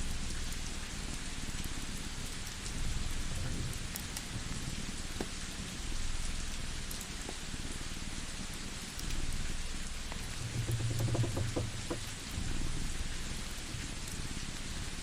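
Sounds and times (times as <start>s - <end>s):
rain hiss: 0.0s - 15.0s
wood fire crackling: 0.3s - 15.0s.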